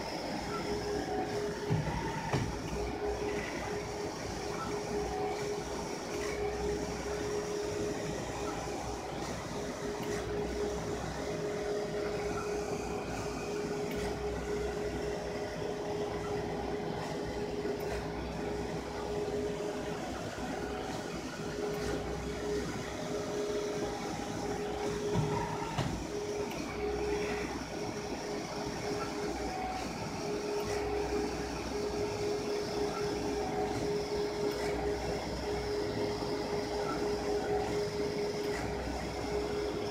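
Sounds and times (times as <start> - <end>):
print carriage whines: 0.0 - 39.9
printer mechanical hum: 0.0 - 39.9.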